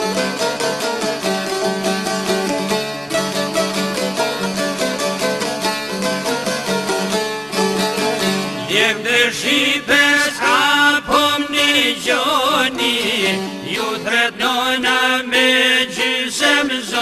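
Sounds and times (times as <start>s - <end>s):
ornamented lead melody: 0.0s - 14.2s
plucked string instrument: 0.0s - 17.0s.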